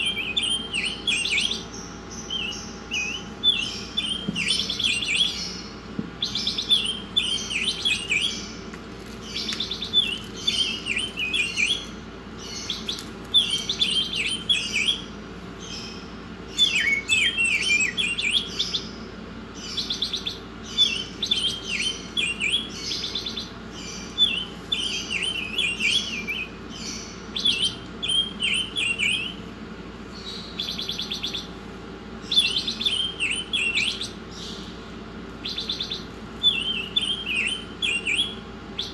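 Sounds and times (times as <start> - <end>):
faint steady hum: 0.0 - 38.9
songbird singing: 0.0 - 38.9.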